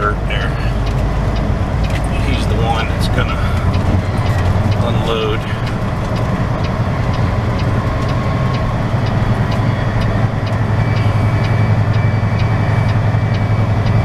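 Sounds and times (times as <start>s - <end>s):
diesel truck engine idling: 0.0s - 14.0s
faint regular ticking: 0.0s - 14.0s.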